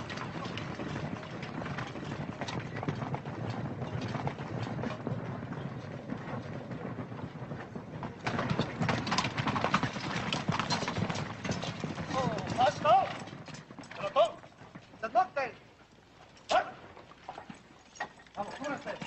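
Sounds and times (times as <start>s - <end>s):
horses' hooves clip-clopping: 0.0s - 19.0s.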